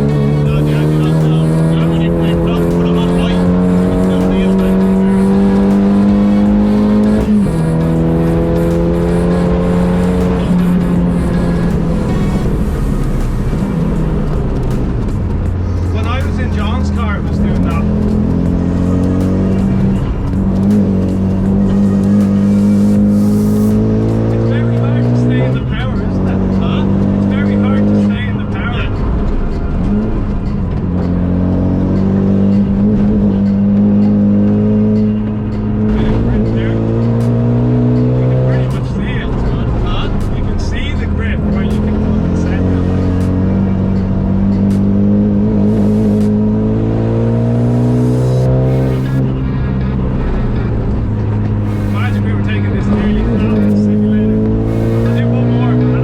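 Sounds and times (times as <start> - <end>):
car engine pulling hard: 0.0 - 56.0.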